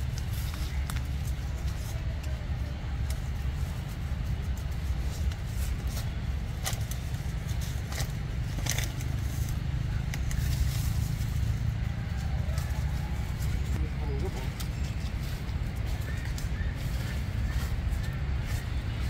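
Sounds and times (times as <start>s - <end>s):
dry leaf litter crackling: 0.0s - 19.0s
steady low rumble: 0.0s - 19.0s.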